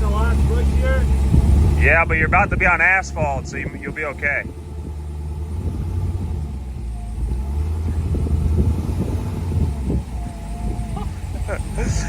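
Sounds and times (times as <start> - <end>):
tyres crackling on dirt: 0.0 - 12.0
vehicle engine droning: 0.0 - 12.0.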